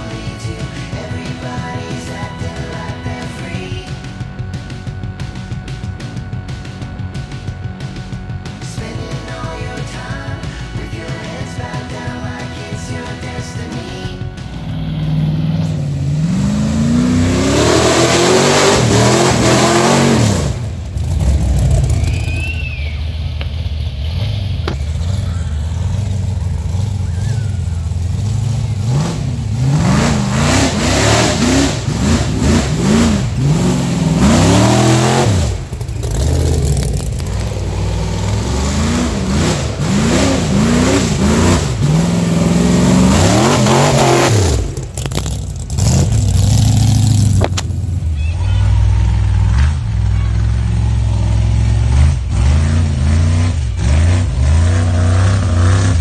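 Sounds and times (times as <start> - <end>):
buggy engine revving: 0.0 - 56.0.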